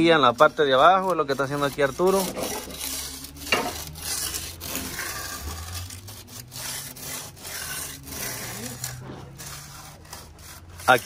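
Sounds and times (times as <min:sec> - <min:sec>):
concrete edger scraping: 0:00.0 - 0:11.0.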